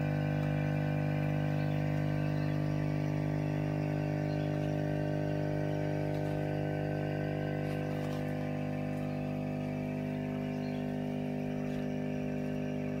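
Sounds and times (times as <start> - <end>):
aquarium air pump humming: 0.0 - 13.0.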